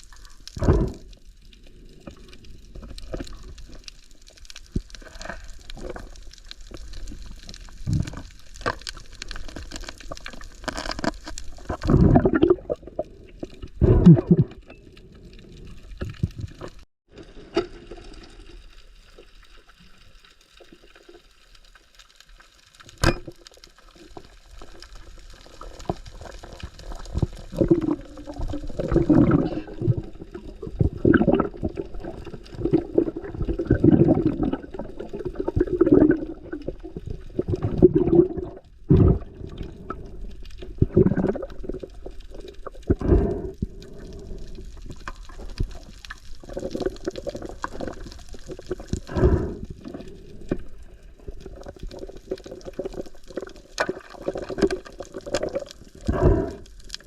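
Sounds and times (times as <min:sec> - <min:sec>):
sea water sloshing and gurgling: 0:00.0 - 0:22.5, 0:23.1 - 0:57.0.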